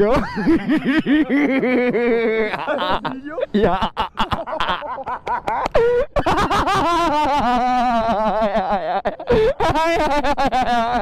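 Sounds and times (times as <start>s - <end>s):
person laughing: 0.0s - 11.0s.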